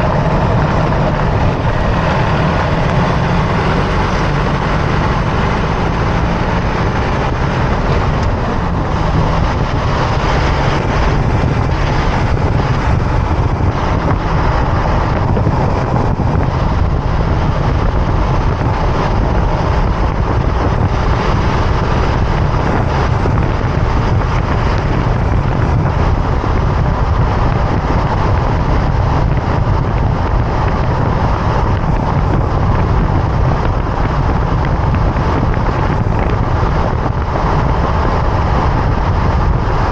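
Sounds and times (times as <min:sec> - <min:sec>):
drivetrain rumble: 0:00.0 - 0:39.9
tyre noise on road: 0:00.0 - 0:39.9
wind on microphone: 0:00.0 - 0:39.9.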